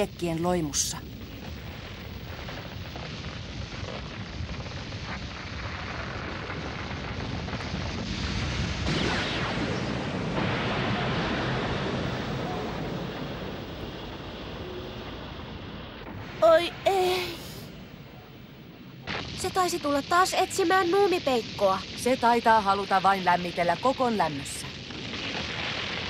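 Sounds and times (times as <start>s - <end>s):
bonfire burning: 0.0s - 26.0s.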